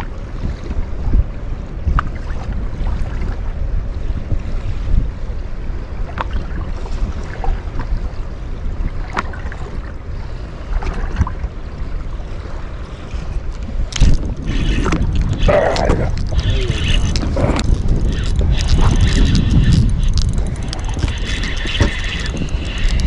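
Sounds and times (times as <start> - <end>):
small waves lapping at boat: 0.0 - 23.0
wind buffeting microphone: 0.0 - 23.0.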